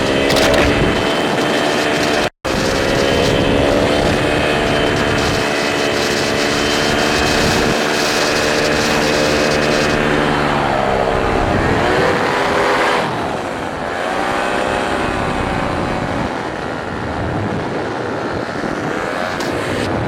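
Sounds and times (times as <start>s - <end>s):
paramotor engine and propeller: 0.0s - 20.0s
wind noise: 0.0s - 20.0s.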